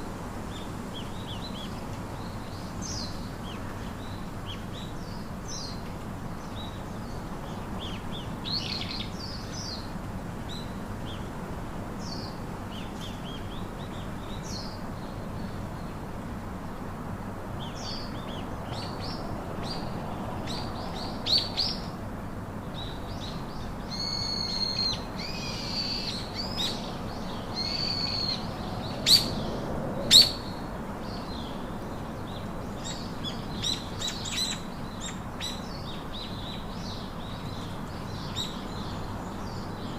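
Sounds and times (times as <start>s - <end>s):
wild birds chirping: 0.5s - 39.9s.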